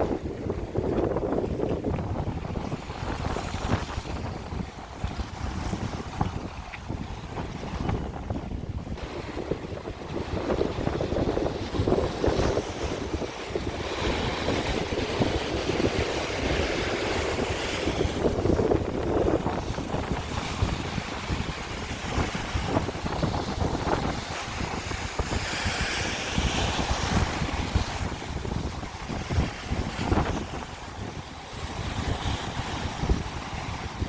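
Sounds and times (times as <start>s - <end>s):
waves breaking on shore: 0.0s - 34.0s
wind buffeting microphone: 0.0s - 34.0s.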